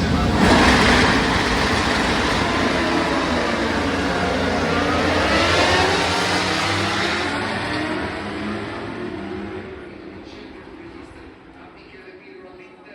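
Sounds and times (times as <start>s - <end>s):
racing motorcycles passing at high revs: 0.0s - 11.6s.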